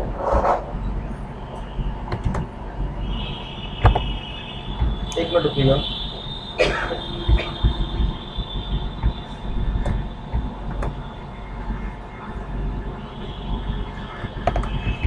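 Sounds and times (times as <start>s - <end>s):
room rumble and hum: 0.0s - 15.0s.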